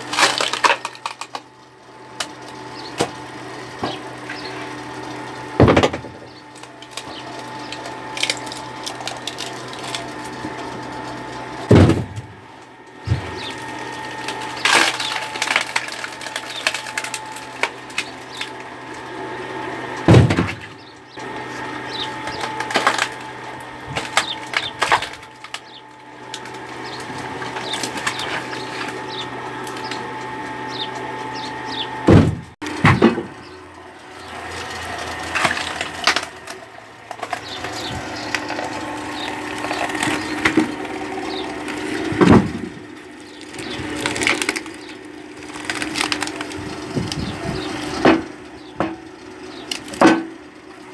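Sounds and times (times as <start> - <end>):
log splitter humming: 0.0 - 50.9
logs cracking and splitting: 0.0 - 50.9.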